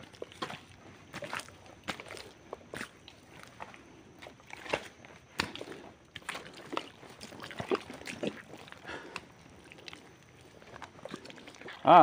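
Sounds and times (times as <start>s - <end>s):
footsteps squelching in wet mud: 0.0s - 12.0s.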